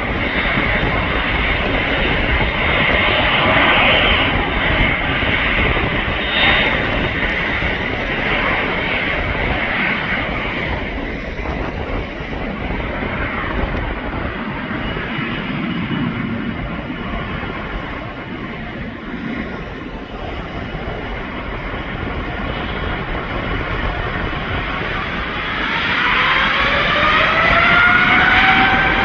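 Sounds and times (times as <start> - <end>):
airplane engines roaring: 0.0 - 29.0.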